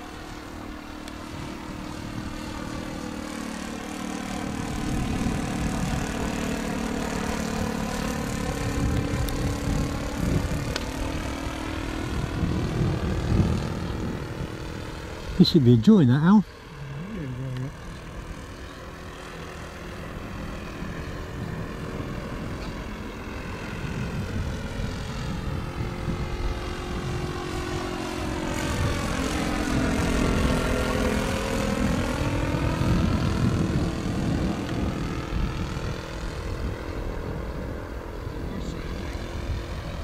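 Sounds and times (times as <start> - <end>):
model airplane engine droning: 0.0 - 40.0.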